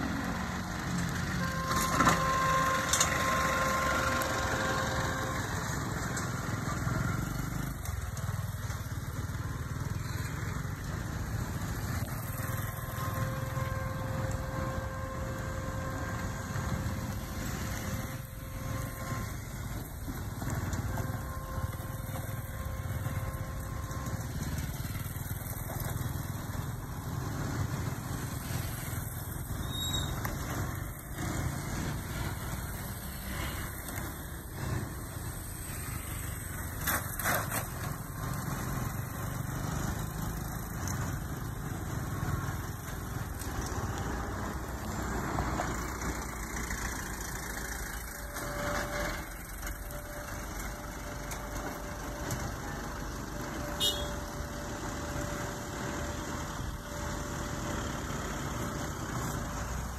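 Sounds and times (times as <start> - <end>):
engine rumbling: 0.0 - 59.9.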